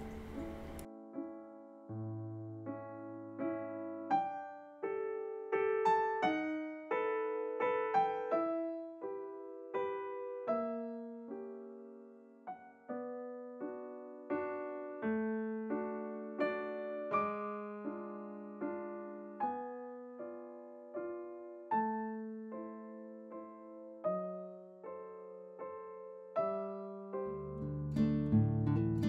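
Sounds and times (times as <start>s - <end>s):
slow gentle piano music: 0.0s - 29.0s.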